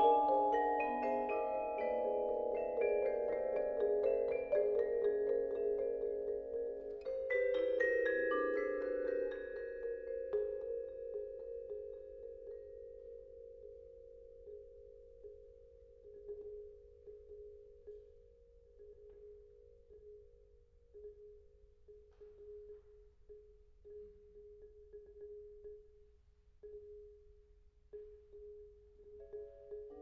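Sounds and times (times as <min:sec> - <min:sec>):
marimba and vibraphone music: 0:00.0 - 0:30.0.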